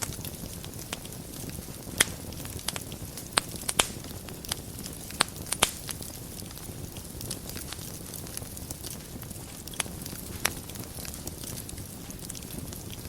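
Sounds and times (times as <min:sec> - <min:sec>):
fire flames rushing: 0:00.0 - 0:13.0
wood fire crackling and popping: 0:00.0 - 0:13.0.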